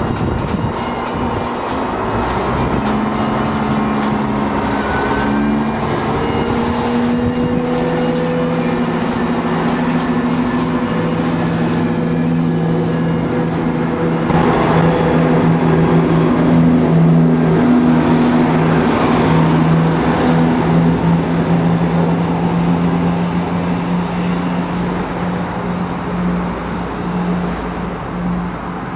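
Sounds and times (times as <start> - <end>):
diesel train engines droning: 0.0 - 28.9
wheels rumbling on rail: 0.0 - 28.9.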